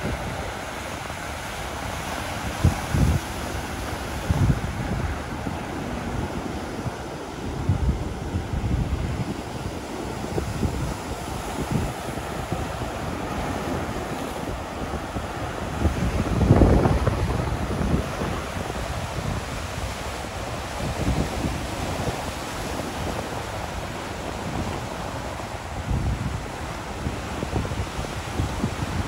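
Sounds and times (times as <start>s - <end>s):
surf breaking on shore: 0.0s - 29.0s
wind buffeting microphone: 0.0s - 29.0s.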